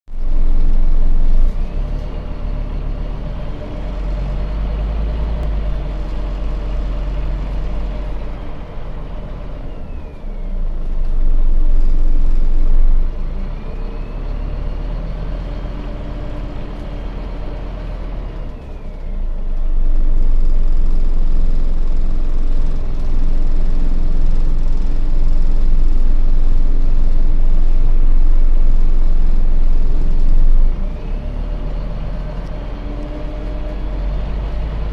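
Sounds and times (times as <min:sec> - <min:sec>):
bus engine droning: 0:00.1 - 0:34.9.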